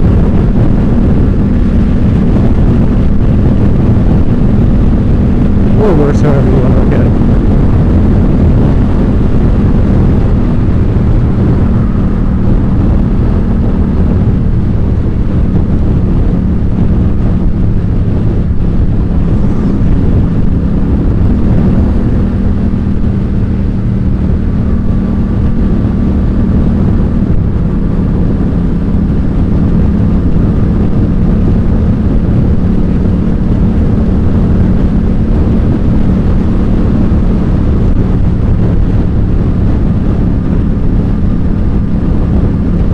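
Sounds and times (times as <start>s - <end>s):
motorcycle engine riding: 0.0s - 42.9s.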